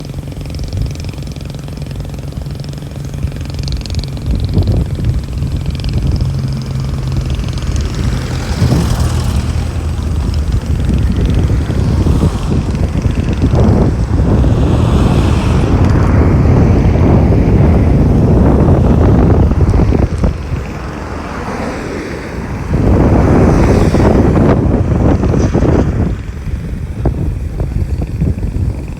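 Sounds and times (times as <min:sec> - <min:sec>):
engine running steadily: 0:00.0 - 0:28.9.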